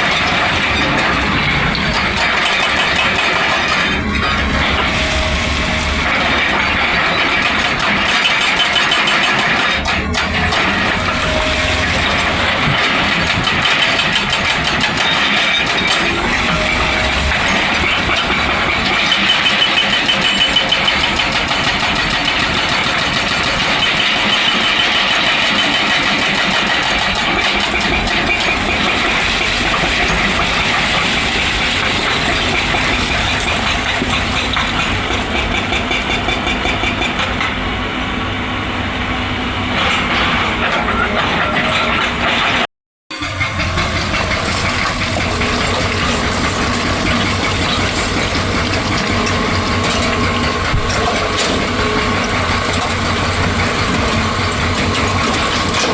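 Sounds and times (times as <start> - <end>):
excavator diesel engine pulsing: 0.0 - 55.9.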